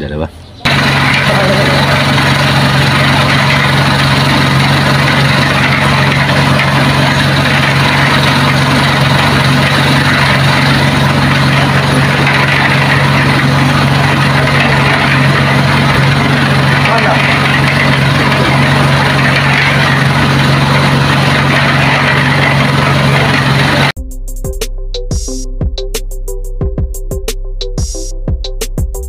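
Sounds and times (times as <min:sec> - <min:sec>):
small gasoline engine running: 0:00.6 - 0:24.0.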